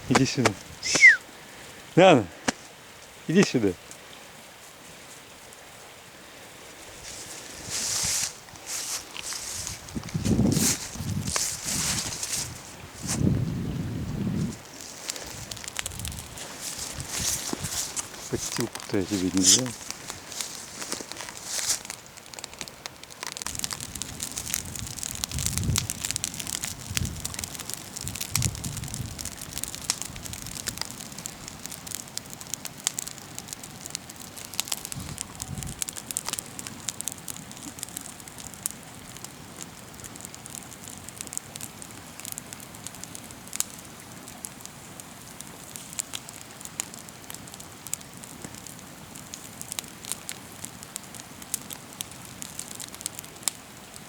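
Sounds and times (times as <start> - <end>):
burning wood snapping and popping: 0.0 - 4.0, 6.9 - 54.0
campfire crackling: 0.0 - 54.0.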